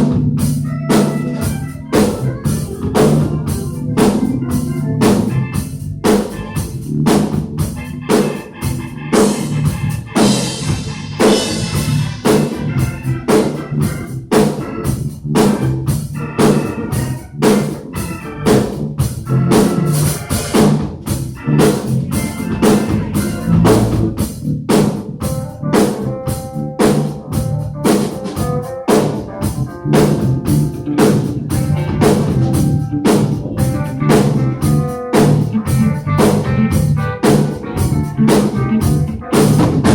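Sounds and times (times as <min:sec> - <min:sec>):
drum kit beat: 0:00.0 - 0:39.9
low bass line: 0:00.0 - 0:39.9
organ chords: 0:00.0 - 0:39.9.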